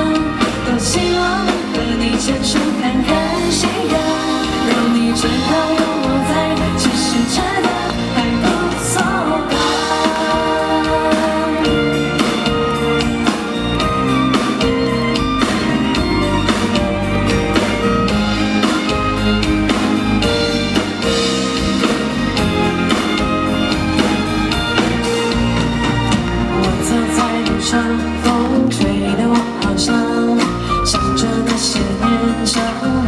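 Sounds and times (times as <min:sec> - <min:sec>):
drum kit steady beat: 0:00.0 - 0:33.0
pop band playing instrumental: 0:00.0 - 0:33.0.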